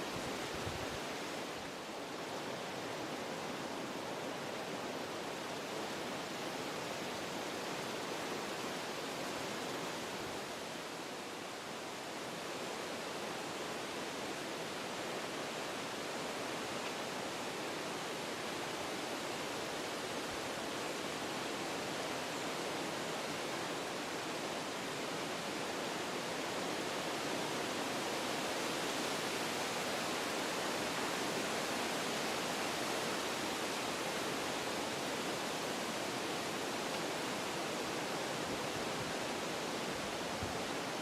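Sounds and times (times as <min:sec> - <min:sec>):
wind through forest trees: 0:00.0 - 0:41.0.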